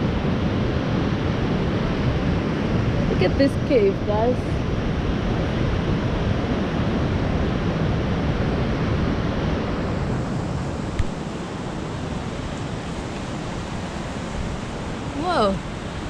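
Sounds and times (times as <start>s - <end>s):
surf on rocky shore: 0.0s - 16.0s
wind buffeting microphone: 0.0s - 16.0s.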